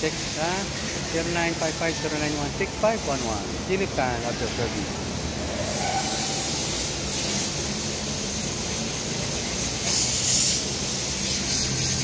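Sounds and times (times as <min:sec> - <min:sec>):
hissing workshop noise: 0:00.0 - 0:12.0.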